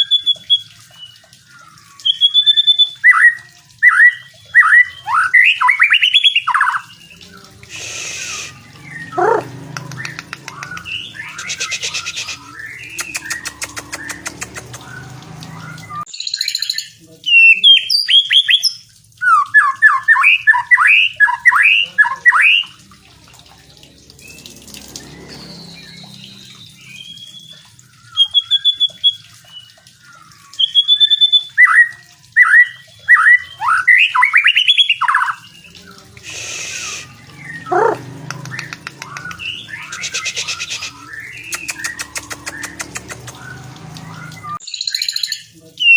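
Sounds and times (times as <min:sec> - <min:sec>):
bird chirps and buzzy calls: 0:00.0 - 0:22.8, 0:23.8 - 0:45.9
bird whistling song: 0:00.0 - 0:22.8, 0:25.3 - 0:45.9.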